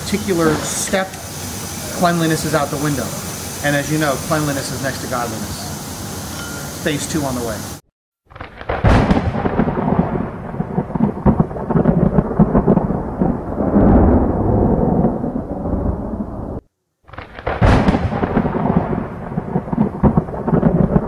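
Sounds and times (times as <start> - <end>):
sharp thunder crack: 0.0 - 5.7, 8.3 - 21.0
thunder rumbling: 0.0 - 6.2, 8.4 - 21.0.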